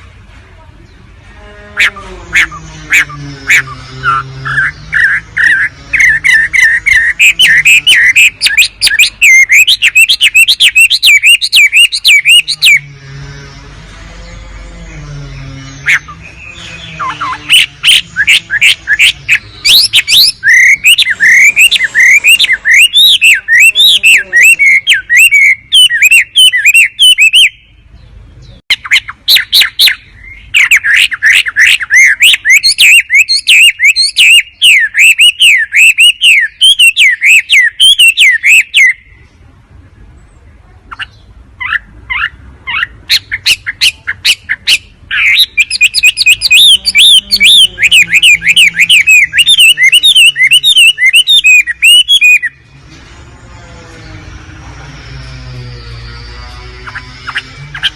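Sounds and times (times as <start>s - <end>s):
bird chirping rapidly: 1.8s - 39.3s, 40.9s - 52.9s.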